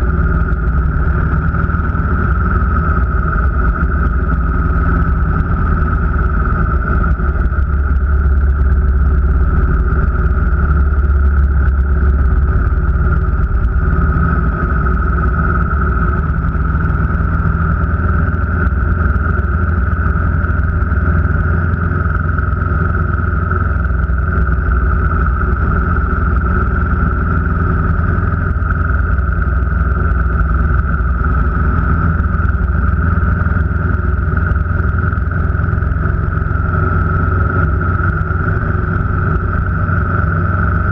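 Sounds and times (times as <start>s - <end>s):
car engine drone: 0.0s - 40.9s
higher hum: 0.0s - 40.9s
road rumble: 0.0s - 40.9s.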